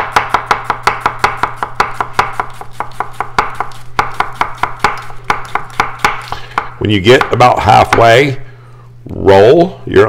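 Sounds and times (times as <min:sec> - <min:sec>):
knife chopping on wooden board: 0:00.0 - 0:08.1.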